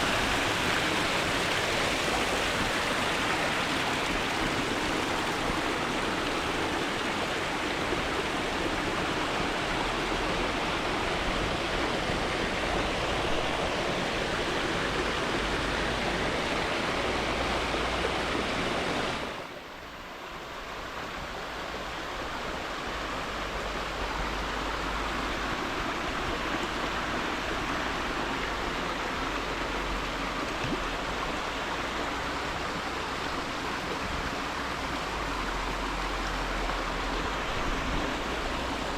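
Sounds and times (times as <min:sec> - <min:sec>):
mountain stream rushing over rocks: 0:00.0 - 0:38.9.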